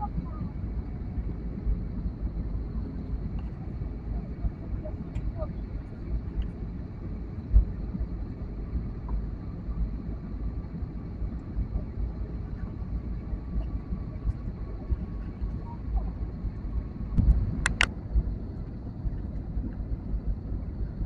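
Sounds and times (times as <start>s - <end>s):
faint steady whine: 0.0s - 21.0s
jet engines rumbling: 0.0s - 21.0s.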